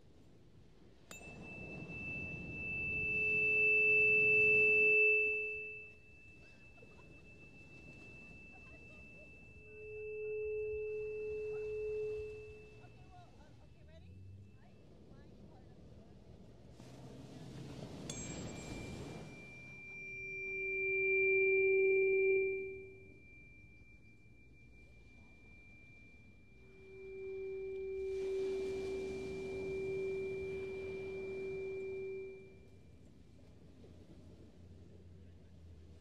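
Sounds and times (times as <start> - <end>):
tuning fork ringing low tone: 1.1 - 15.0, 18.1 - 34.4
faint high overtone ringing: 1.1 - 15.1, 18.0 - 34.0.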